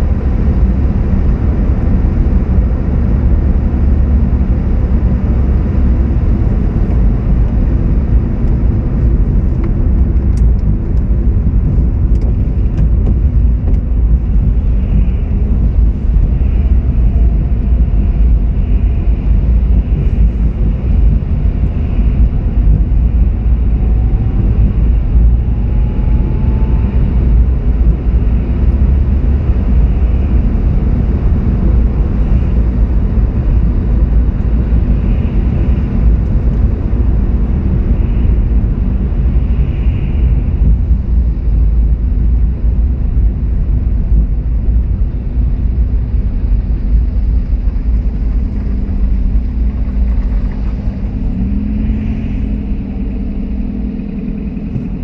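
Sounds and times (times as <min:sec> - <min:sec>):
car driving on wet road: 0:00.0 - 0:55.0.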